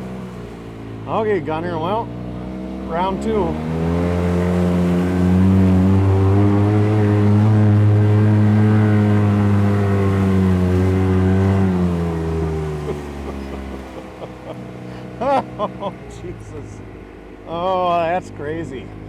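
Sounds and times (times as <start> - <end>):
engine at high revs: 0.0 - 19.0.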